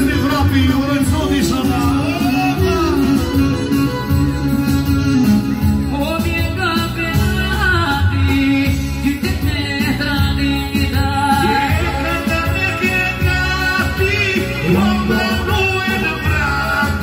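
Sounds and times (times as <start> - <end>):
folk music with trilling vocals: 0.0 - 17.0.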